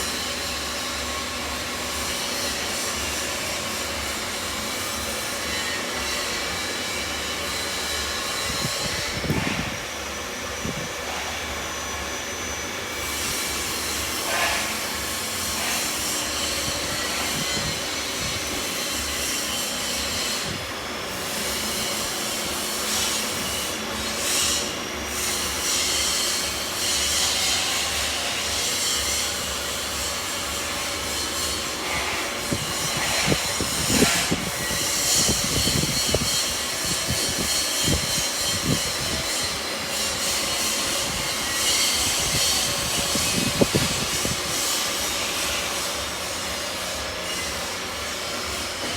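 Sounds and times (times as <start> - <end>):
saw grinding through stone: 0.0 - 48.9.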